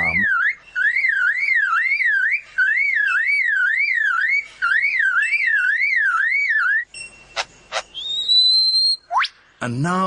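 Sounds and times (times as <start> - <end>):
bird mimicking a car alarm: 0.0 - 9.4.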